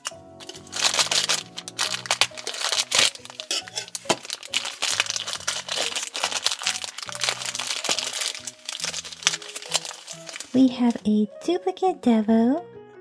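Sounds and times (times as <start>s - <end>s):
plastic bag crinkling: 0.0s - 11.0s
background music: 0.0s - 13.0s.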